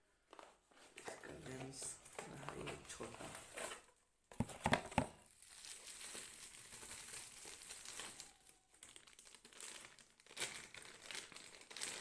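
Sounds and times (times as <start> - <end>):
plastic packaging crinkling: 0.3 - 12.0.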